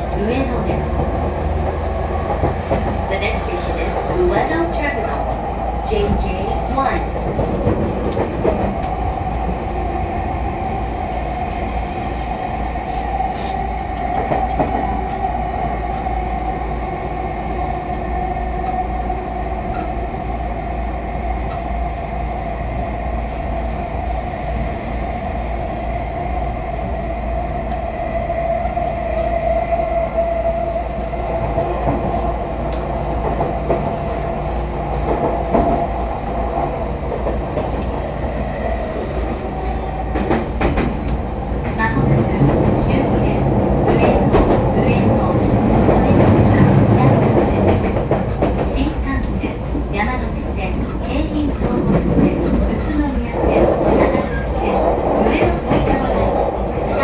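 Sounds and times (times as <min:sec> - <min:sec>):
train whine: 0:00.0 - 0:57.0
wheels rumbling on rail: 0:00.0 - 0:57.0.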